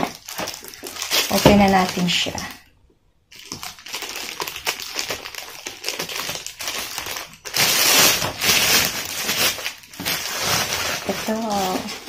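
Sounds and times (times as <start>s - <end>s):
plastic bag crinkling: 0.0s - 2.7s, 3.3s - 12.0s.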